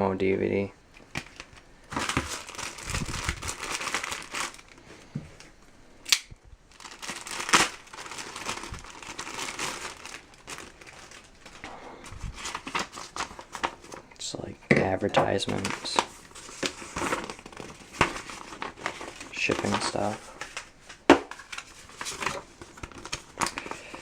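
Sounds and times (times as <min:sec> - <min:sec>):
paper and packaging crinkling: 0:01.0 - 0:05.5, 0:06.7 - 0:14.1, 0:15.1 - 0:24.0.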